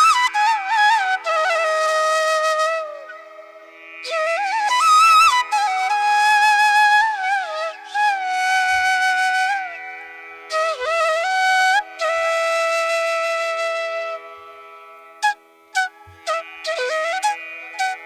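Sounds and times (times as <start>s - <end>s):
slow flute melody over drone: 0.0s - 14.6s, 15.2s - 18.0s.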